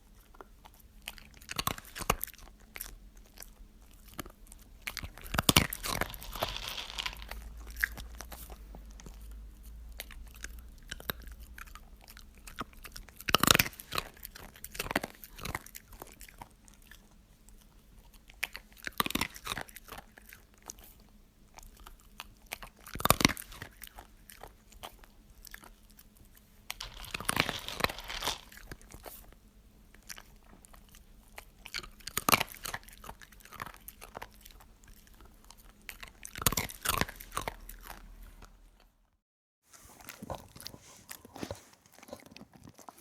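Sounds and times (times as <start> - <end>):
crackling chewing: 0.0 - 39.0, 39.7 - 43.0.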